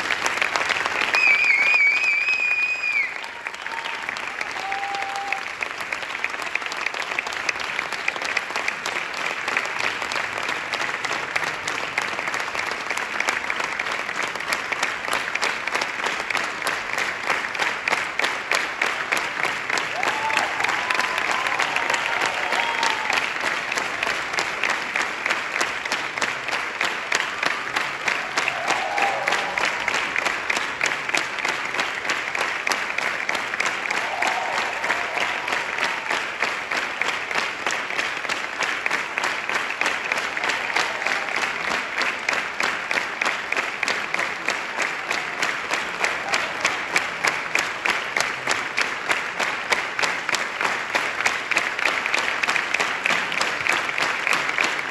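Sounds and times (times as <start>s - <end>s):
audience applause: 0.0s - 54.9s.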